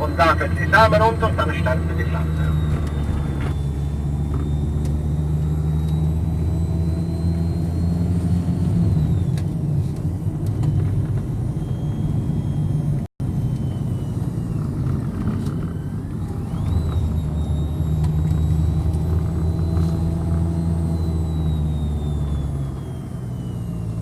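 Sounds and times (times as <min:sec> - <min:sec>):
bus engine and road rumble: 0:00.0 - 0:24.0.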